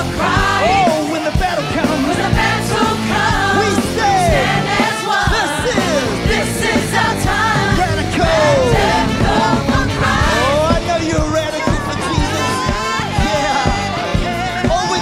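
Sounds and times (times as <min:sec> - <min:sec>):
backing band: 0:00.0 - 0:15.0
group of singers: 0:00.0 - 0:15.0
steady drum beat: 0:00.0 - 0:15.0.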